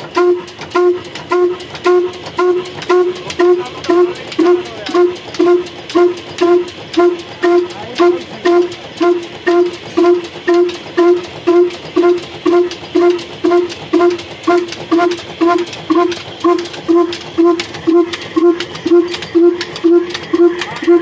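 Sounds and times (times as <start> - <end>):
stationary diesel engine puffing: 0.0 - 21.0.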